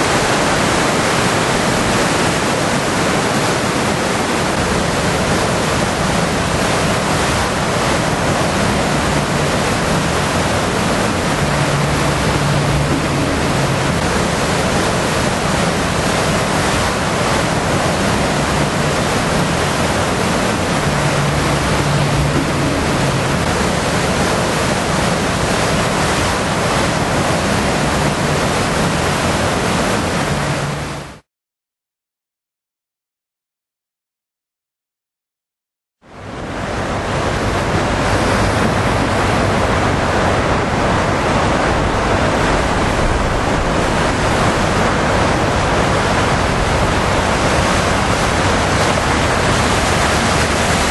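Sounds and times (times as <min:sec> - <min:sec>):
flood water rushing: 0:00.0 - 0:31.2, 0:36.1 - 0:50.9.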